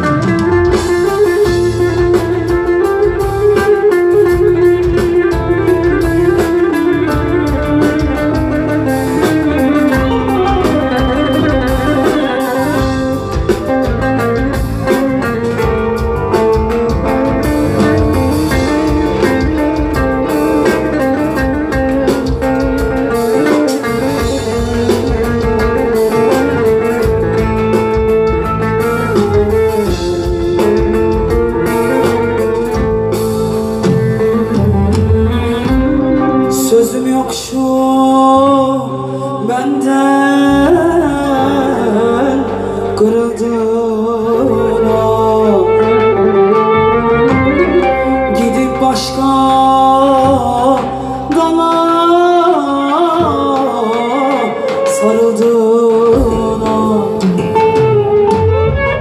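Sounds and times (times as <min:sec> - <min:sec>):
drum kit: 0:00.0 - 0:59.0
guitar: 0:00.0 - 0:59.0.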